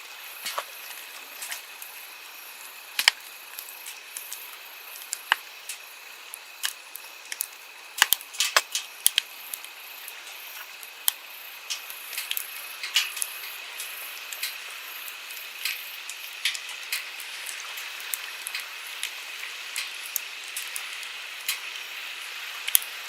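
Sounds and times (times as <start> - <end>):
flowing stream: 0.0 - 23.0
campfire crackling and popping: 0.1 - 21.8, 22.5 - 22.9.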